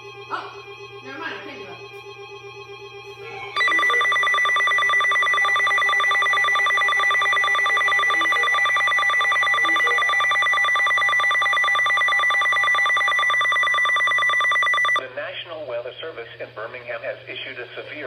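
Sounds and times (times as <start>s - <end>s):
trilling electronic alarm tone: 0.0s - 15.0s.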